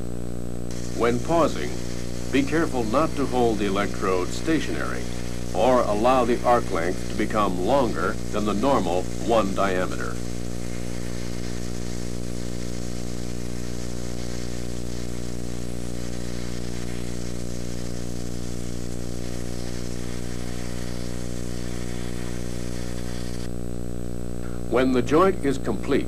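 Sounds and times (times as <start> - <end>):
electrical hum: 0.0 - 26.0
steady hiss: 0.0 - 26.0.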